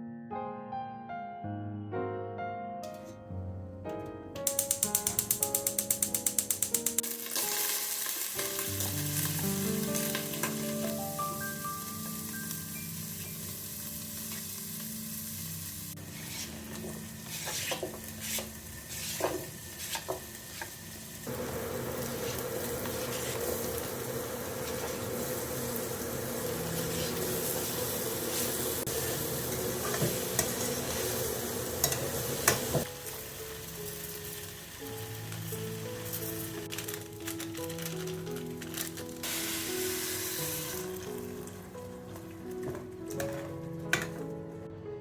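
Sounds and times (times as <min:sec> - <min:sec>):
food sizzling in a frying pan: 0:04.5 - 0:41.9.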